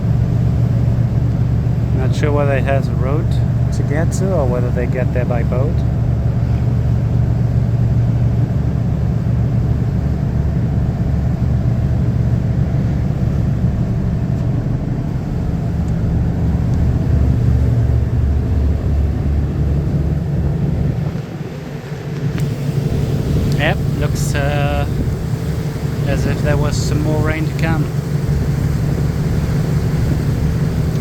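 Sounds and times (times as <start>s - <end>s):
ferry engine droning: 0.0s - 31.0s.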